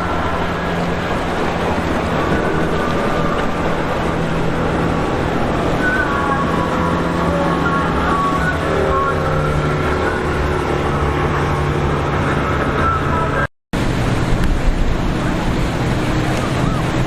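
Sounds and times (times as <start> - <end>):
engine whine sliding in pitch: 0.0 - 17.0
motorboat engines running: 0.0 - 17.0
rough water: 0.0 - 17.0
wind: 0.0 - 17.0.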